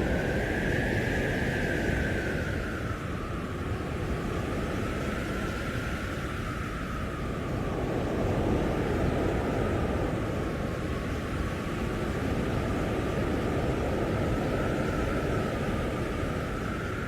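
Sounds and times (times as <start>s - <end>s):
blizzard wind blowing hard: 0.0s - 17.0s
faint high wind whistle: 0.0s - 17.0s.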